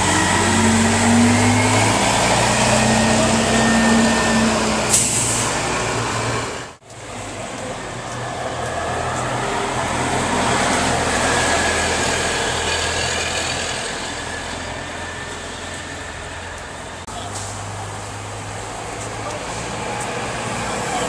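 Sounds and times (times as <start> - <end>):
bus pulling away: 0.0 - 21.0
bus running close by: 0.0 - 21.0.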